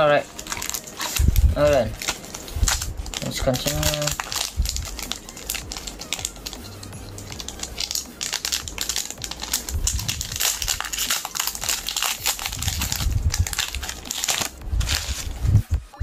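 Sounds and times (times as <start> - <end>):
foil wrapper crinkling: 0.0 - 15.6.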